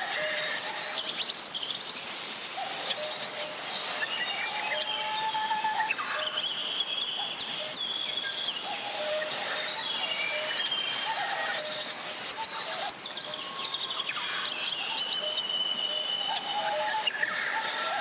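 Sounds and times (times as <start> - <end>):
birds whistling and chirping: 3.0 - 18.0.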